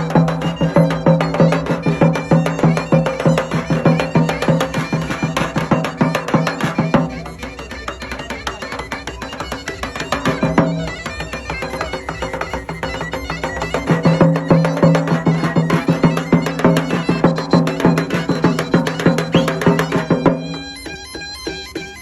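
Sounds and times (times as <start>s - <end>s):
fast folk dance tune: 0.0s - 22.0s.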